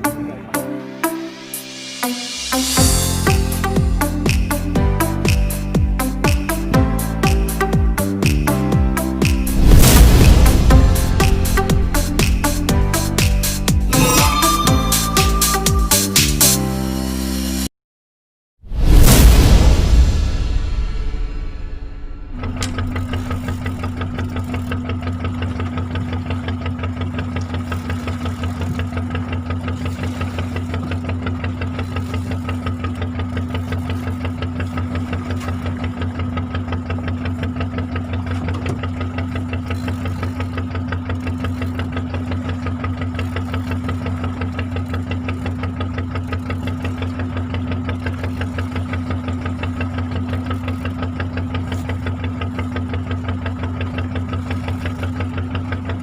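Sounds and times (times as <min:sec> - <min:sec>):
boat engine throbbing: 0:00.0 - 0:17.6, 0:19.5 - 0:56.0.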